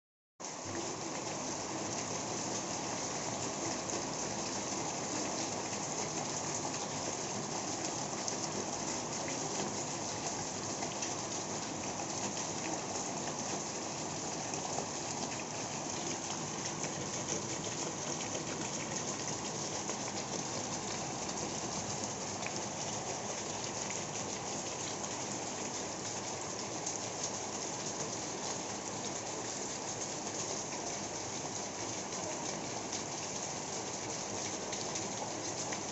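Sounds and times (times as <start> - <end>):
rain falling on water: 0.4 - 35.9
water gushing from drainpipe: 0.5 - 35.9.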